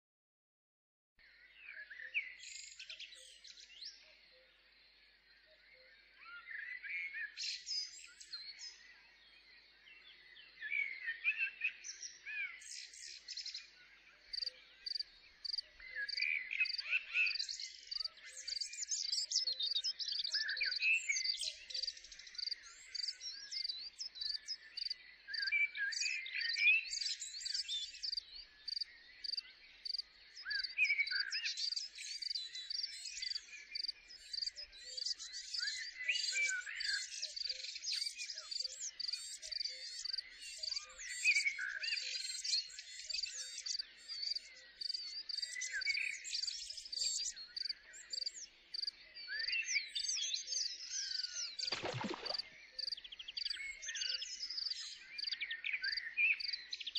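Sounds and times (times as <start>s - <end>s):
small birds chirping and trilling: 1.2s - 56.9s.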